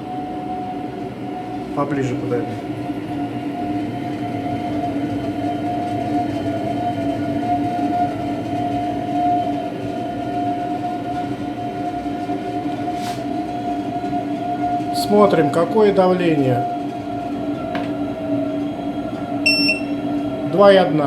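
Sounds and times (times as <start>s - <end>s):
gas boiler burner rumble: 0.0s - 21.0s
constant high squeal: 3.1s - 21.0s.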